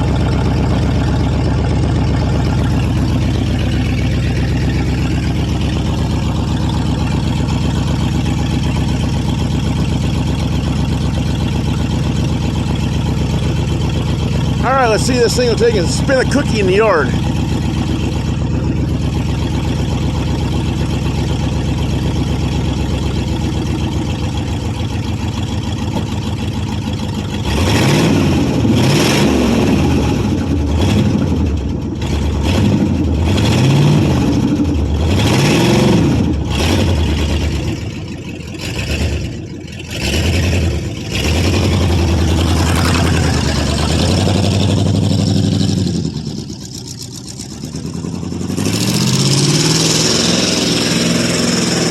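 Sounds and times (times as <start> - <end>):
truck engine idling and revving: 0.0 - 51.9.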